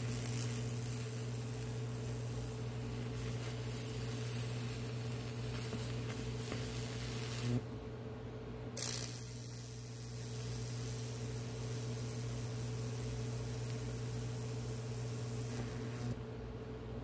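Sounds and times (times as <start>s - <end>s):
high-voltage arc sizzling: 0.0s - 7.8s, 8.8s - 16.2s
electrical hum: 0.0s - 17.0s.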